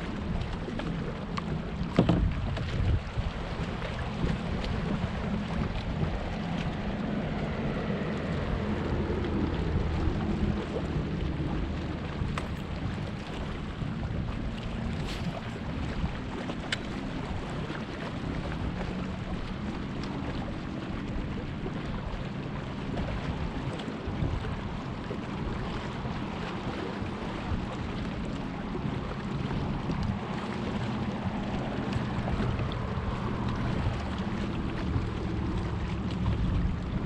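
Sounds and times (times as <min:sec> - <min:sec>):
water lapping: 0:00.0 - 0:37.0
wind buffeting microphone: 0:00.0 - 0:37.0.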